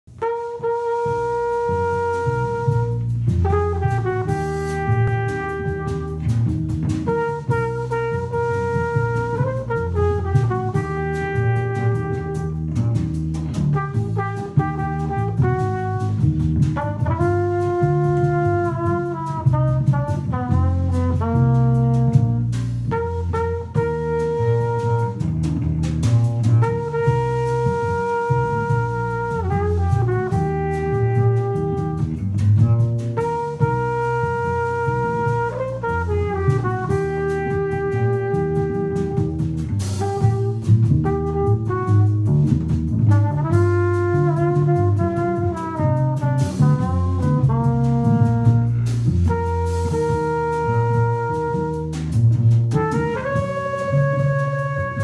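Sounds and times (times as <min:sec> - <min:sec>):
drum kit with cymbals: 0:00.0 - 0:55.0
plucked double bass: 0:00.0 - 0:55.0
trumpet melody: 0:00.0 - 0:55.0.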